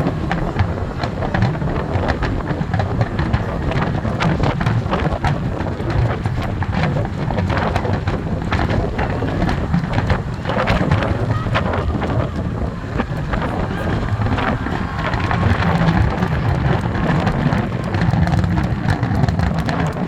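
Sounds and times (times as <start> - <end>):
fireworks bursts rumbling: 0.0 - 20.0
fireworks crackling and pops: 0.0 - 20.0
wind buffeting microphone: 0.0 - 20.0.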